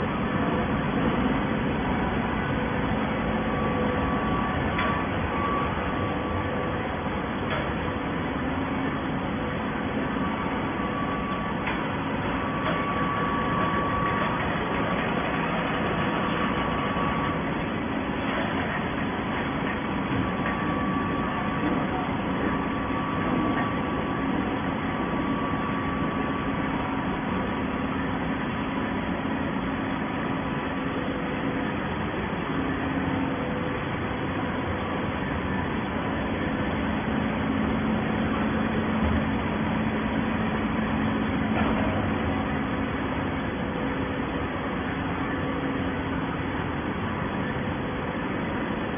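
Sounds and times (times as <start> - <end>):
baler machinery humming: 0.0 - 48.9
steady machine tones: 0.0 - 48.9.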